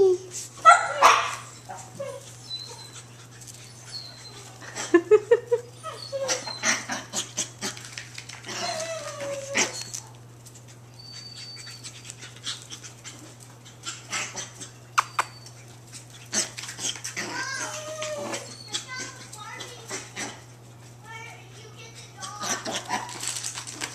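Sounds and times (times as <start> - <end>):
puppy whining: 0.0 - 23.9
paws scrabbling on tile floor: 0.3 - 23.9
puppies yipping: 0.6 - 23.9.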